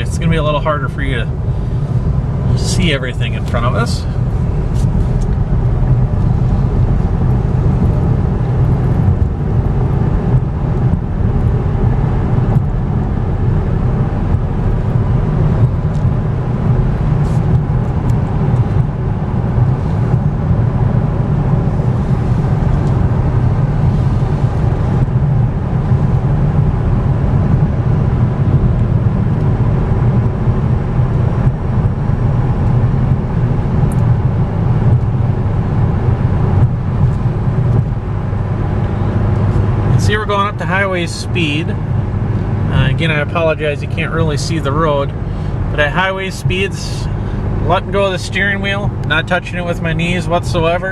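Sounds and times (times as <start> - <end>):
road and tyre rumble in car: 0.0 - 50.9.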